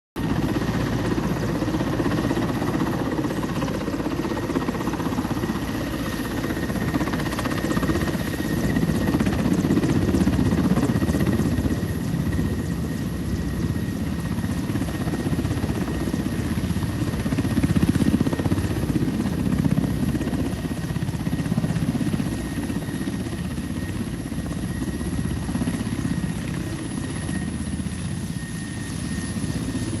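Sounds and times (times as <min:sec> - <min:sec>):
helicopter rotor beating: 0:00.2 - 0:30.0.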